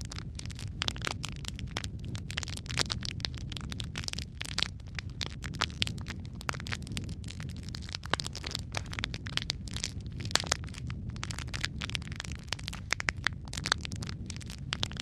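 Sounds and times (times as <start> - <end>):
low rumble of flame: 0.0 - 15.0
wood fire crackling and popping: 0.0 - 15.0.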